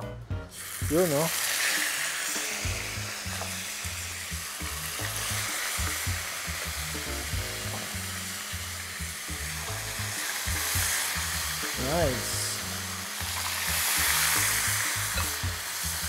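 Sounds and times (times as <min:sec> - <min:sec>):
chicken sizzling in hot oil: 0:00.4 - 0:16.0.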